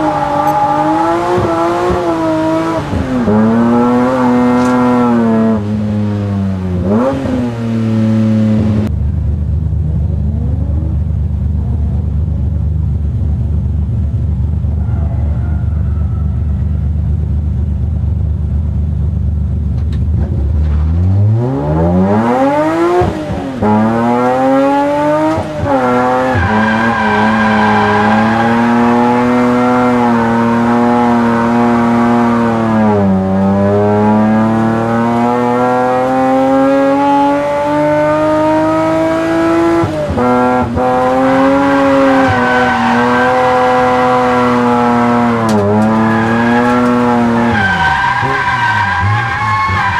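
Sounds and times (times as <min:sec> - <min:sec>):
car engine revving: 0:00.0 - 0:17.9, 0:19.8 - 0:49.9.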